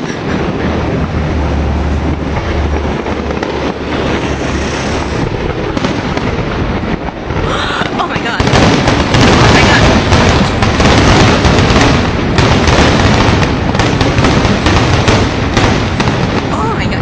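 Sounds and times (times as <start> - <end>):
fireworks bursts and crackle: 0.0 - 17.0.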